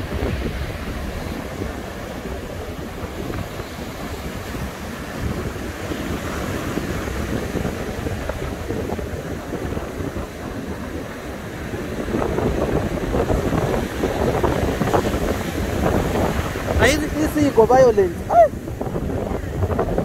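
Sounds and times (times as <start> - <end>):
ocean surf breaking on beach: 0.0 - 20.0
wind buffeting microphone: 0.0 - 20.0.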